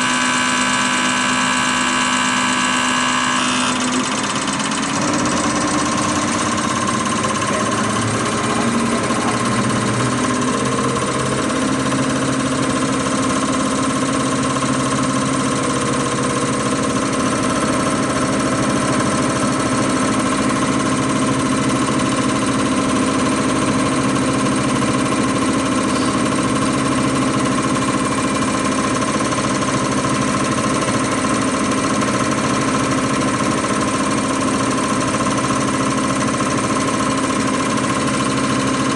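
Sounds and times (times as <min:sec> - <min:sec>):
high-pressure pump whirring: 0:00.0 - 0:38.9.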